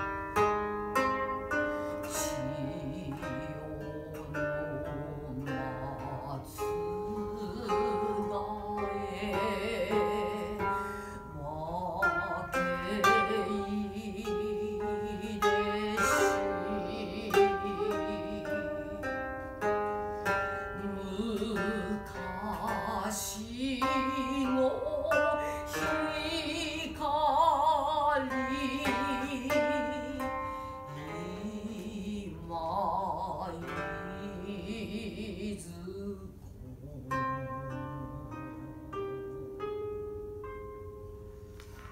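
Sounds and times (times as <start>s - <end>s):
koto plucked notes: 0.0s - 41.9s.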